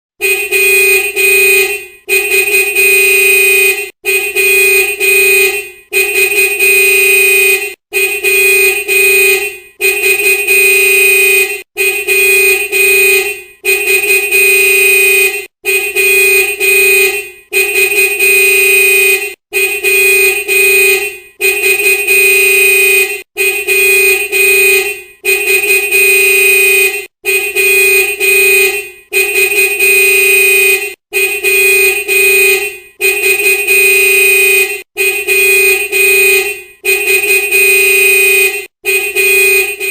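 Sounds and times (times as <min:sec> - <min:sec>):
vehicle horn honking: 0:00.2 - 0:39.9.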